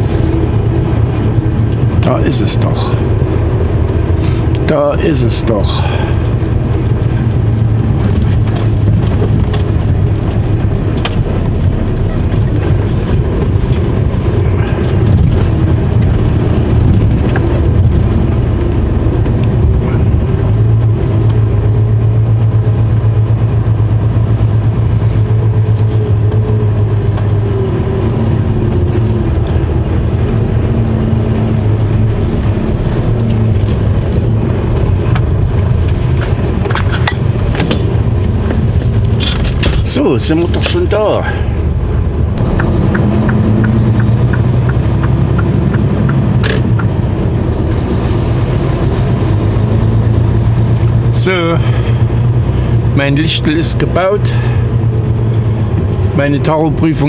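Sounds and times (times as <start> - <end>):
truck diesel engine humming: 0.0 - 57.0.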